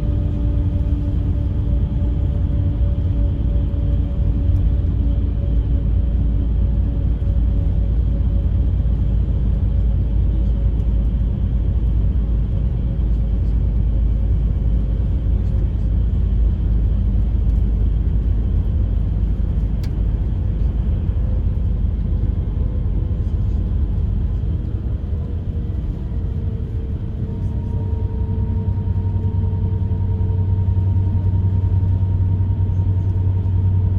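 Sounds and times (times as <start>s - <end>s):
bus engine and tyre rumble: 0.0s - 33.9s
faint engine whine: 0.0s - 33.9s.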